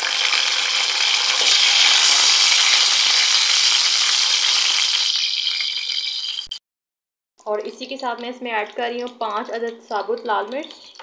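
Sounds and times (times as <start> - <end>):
frying hiss in hot oil: 0.0 - 6.6, 7.4 - 11.0.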